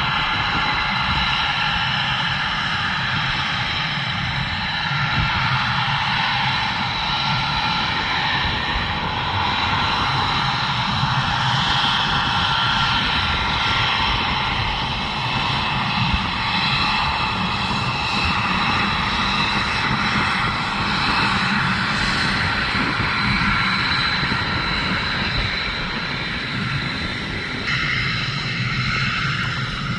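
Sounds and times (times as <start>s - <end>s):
jet engines running: 0.0s - 29.9s.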